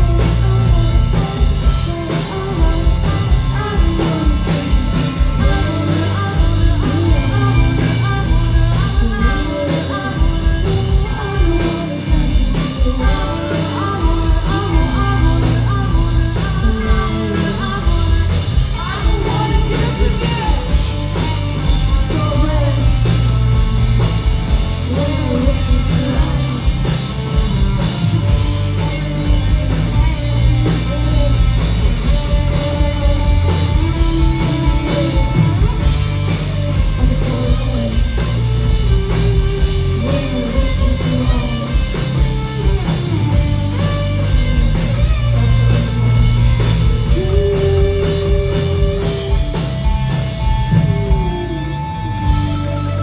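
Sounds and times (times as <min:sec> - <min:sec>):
person singing: 0:00.0 - 0:23.6, 0:24.6 - 0:46.0, 0:46.8 - 0:49.8
bass guitar: 0:00.0 - 0:53.0
distorted electric guitars: 0:00.0 - 0:53.0
drum kit: 0:00.0 - 0:53.0.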